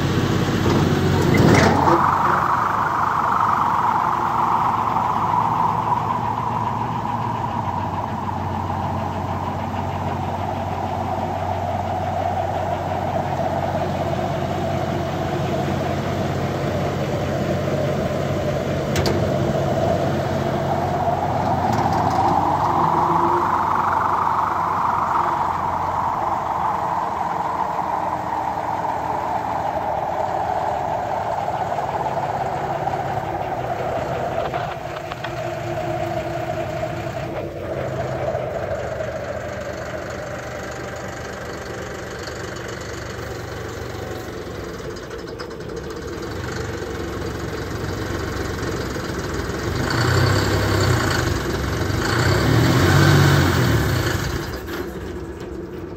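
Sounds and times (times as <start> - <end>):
hissing whine: 0.0 - 55.9
tractor diesel engine running: 0.0 - 55.9.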